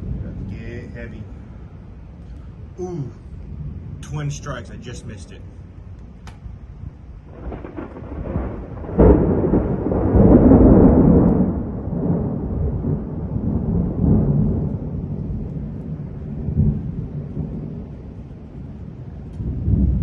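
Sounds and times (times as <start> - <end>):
rolling thunder rumble: 0.0 - 20.0
thunder crack: 0.0 - 20.0.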